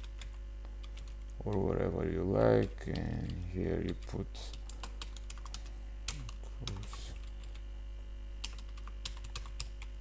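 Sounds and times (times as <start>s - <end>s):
computer keyboard typing: 0.0s - 7.6s, 8.4s - 10.0s
steady low hum: 0.0s - 10.0s.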